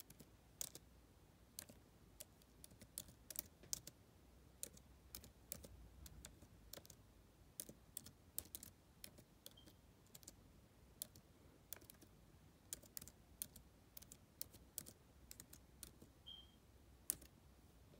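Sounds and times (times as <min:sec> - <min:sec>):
computer keyboard typing: 0:00.0 - 0:00.9, 0:01.5 - 0:10.4, 0:11.0 - 0:16.4, 0:17.0 - 0:17.4.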